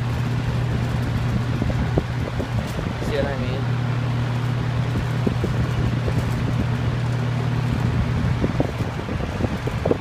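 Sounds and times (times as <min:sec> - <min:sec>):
box fan running loud: 0:00.0 - 0:10.0.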